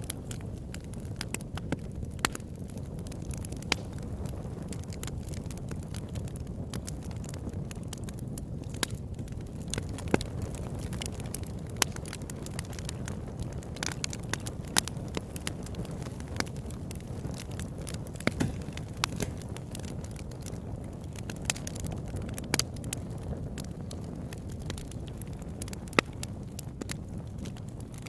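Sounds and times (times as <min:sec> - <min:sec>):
campfire flame rushing: 0:00.0 - 0:28.0
fire crackling and popping: 0:00.0 - 0:28.0.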